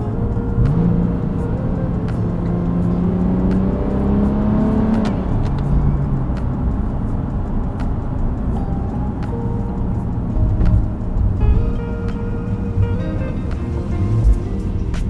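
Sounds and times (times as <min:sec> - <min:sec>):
car engine accelerating: 0:00.0 - 0:15.0
tyre and road noise: 0:00.0 - 0:15.0.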